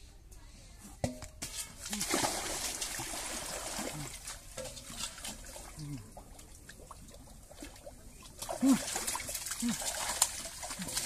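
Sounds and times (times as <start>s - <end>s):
water trickling and lapping: 1.4s - 11.0s
water splashing around wading man: 1.5s - 11.0s.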